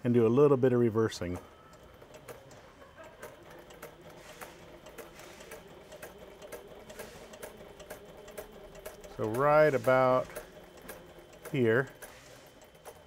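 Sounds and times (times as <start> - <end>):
faint motor hum: 0.0 - 13.0
sewing machine needle ticks: 1.1 - 13.0.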